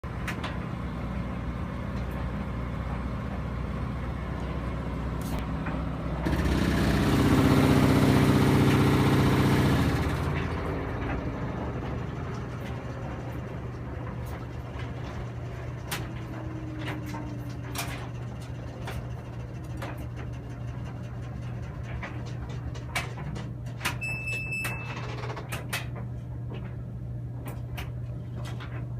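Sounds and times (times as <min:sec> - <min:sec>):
washing machine humming and buzzing: 0:00.0 - 0:28.9.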